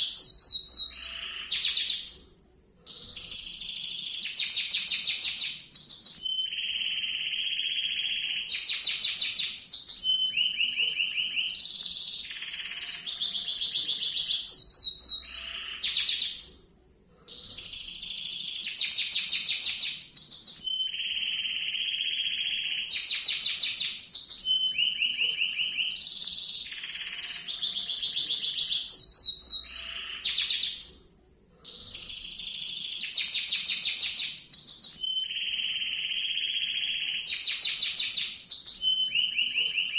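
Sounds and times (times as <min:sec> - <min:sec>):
canary singing trills: 0:00.0 - 0:02.2, 0:02.8 - 0:16.5, 0:17.3 - 0:30.9, 0:31.6 - 0:39.9.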